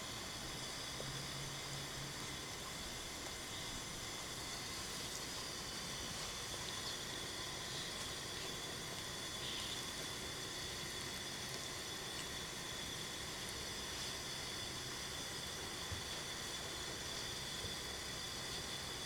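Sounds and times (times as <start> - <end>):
low hiss of room noise: 0.0 - 19.0.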